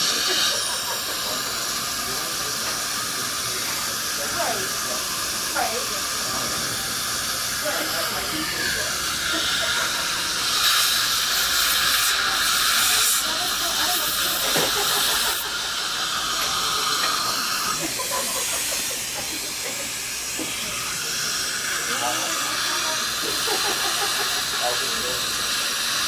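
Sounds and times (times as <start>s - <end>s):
dental equipment air hiss: 0.0s - 26.0s.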